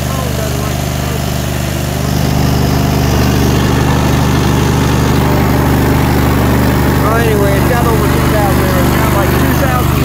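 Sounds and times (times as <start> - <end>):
lawn tractor engine running: 0.0 - 10.0.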